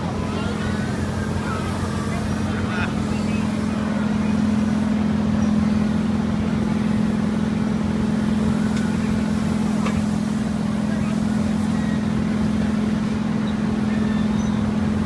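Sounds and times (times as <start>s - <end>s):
carnival ride machinery hum: 0.0s - 15.0s.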